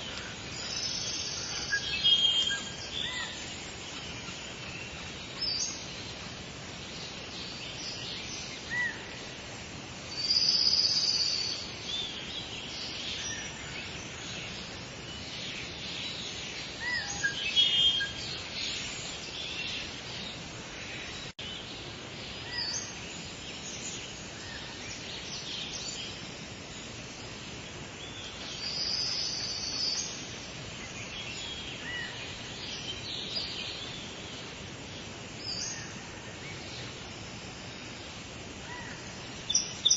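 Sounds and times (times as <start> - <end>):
birds chirping and singing: 0.0 - 9.3, 10.1 - 37.1, 38.1 - 39.9
outdoor background hiss: 0.0 - 39.9.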